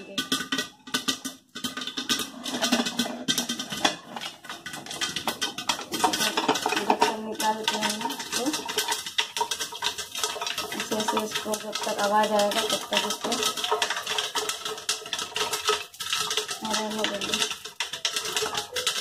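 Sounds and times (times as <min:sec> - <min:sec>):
popcorn popping in a pot: 0:00.0 - 0:19.0.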